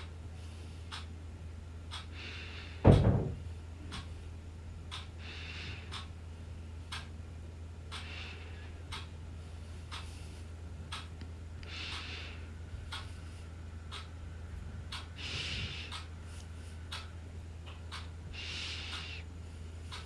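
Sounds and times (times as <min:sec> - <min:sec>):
soft hissy breaths: 0:00.0 - 0:20.0
steady low hum: 0:00.0 - 0:20.0.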